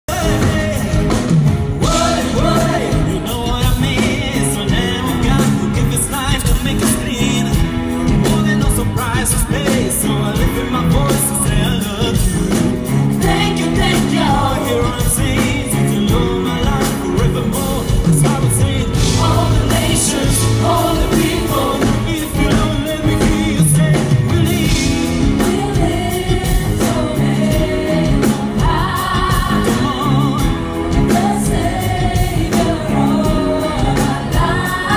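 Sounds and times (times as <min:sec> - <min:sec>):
drums: 0:00.0 - 0:34.9
lead singer singing: 0:00.1 - 0:34.9
live pop-rock band: 0:00.1 - 0:34.9.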